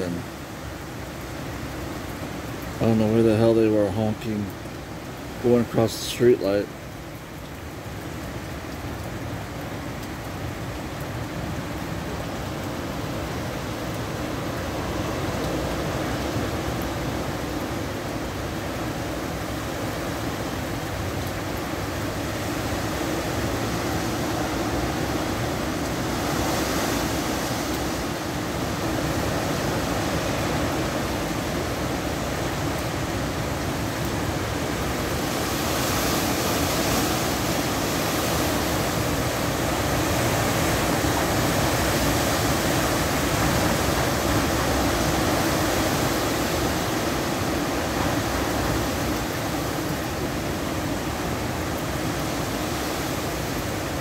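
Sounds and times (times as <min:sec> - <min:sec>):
wind and rain rushing: 0:00.0 - 0:54.0.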